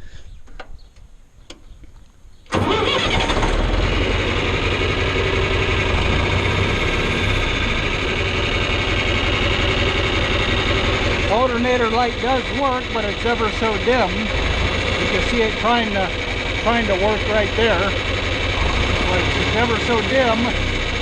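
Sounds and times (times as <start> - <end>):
tractor engine starting and running: 2.4 - 21.0.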